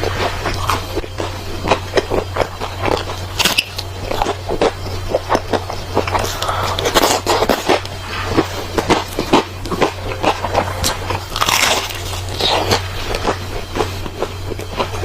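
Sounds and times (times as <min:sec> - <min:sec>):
chewing crunchy food: 0:00.0 - 0:15.0
steady low hum: 0:00.0 - 0:15.0.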